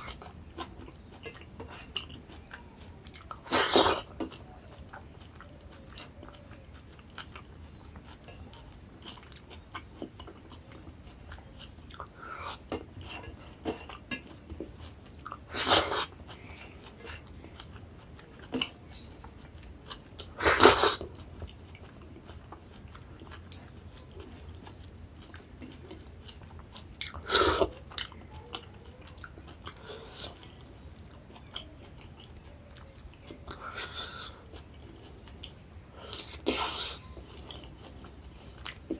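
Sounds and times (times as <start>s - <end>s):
chewing and wet mouth sounds: 0.0s - 38.9s.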